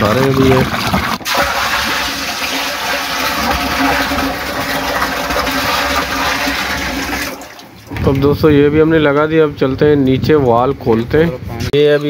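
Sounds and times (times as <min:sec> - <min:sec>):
water running into plastic tank: 0:00.0 - 0:12.0.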